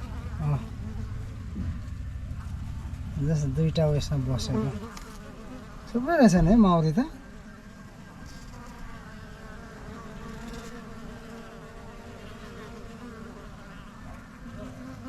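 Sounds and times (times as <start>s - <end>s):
honey bees buzzing at a hive: 0.0s - 15.0s.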